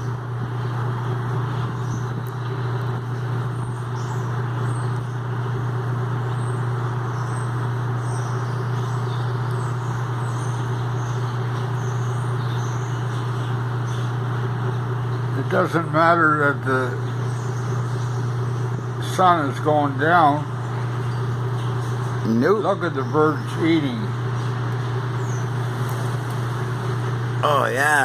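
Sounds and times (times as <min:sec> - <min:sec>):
flock of birds chattering: 0:00.0 - 0:28.0
steady low hum: 0:00.0 - 0:28.0.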